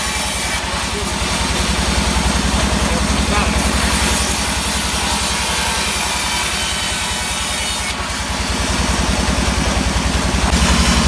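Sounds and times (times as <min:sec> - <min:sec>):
pulsing engine: 0:00.0 - 0:11.0
saw cutting through log: 0:00.0 - 0:11.0.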